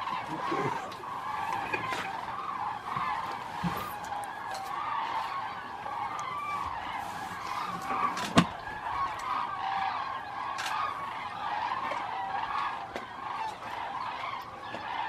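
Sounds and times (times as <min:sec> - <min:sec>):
flock of birds honking: 0:00.0 - 0:15.0.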